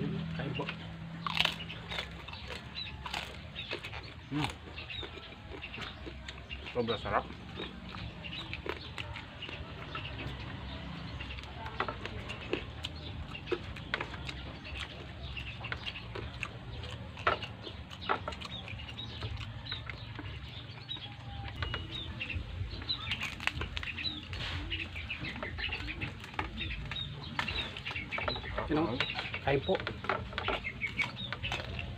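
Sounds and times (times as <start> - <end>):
chewing and food handling: 0.0 - 31.9.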